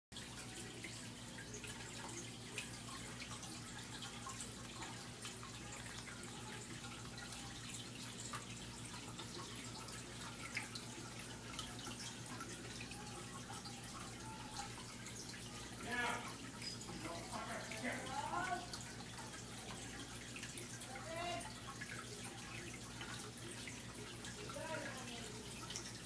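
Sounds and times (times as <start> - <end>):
aquarium water trickling: 0.1 - 26.0.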